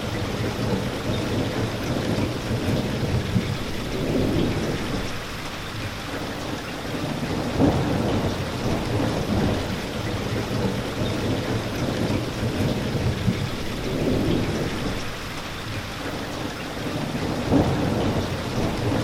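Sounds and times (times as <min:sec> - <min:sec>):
low rumble of thunder: 0:00.0 - 0:05.8, 0:07.0 - 0:15.8, 0:16.9 - 0:19.0
steady rain falling: 0:00.0 - 0:19.0.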